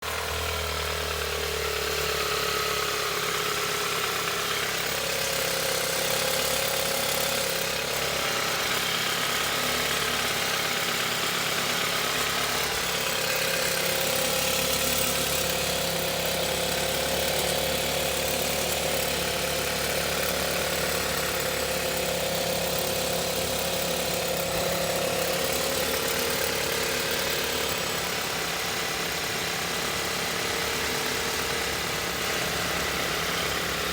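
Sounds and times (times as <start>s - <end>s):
car engine idling with rattle: 0.0s - 33.9s.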